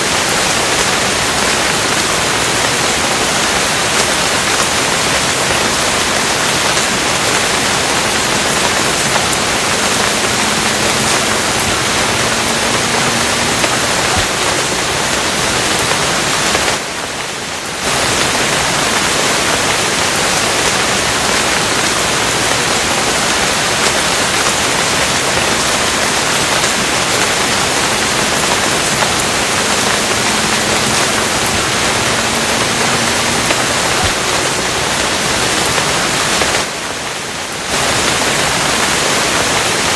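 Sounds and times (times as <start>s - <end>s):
steady dense rain: 0.0s - 39.9s.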